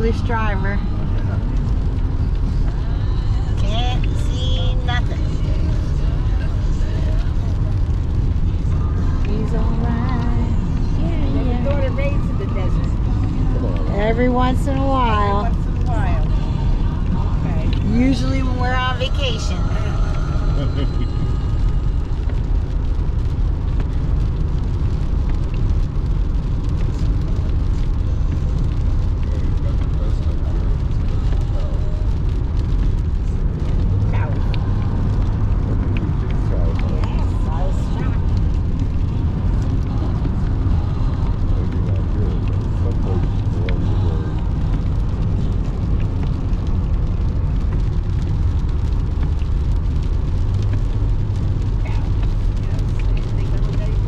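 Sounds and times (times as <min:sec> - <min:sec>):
car cabin road rumble: 0:00.0 - 0:54.0
rain and tyre spray: 0:00.0 - 0:54.0.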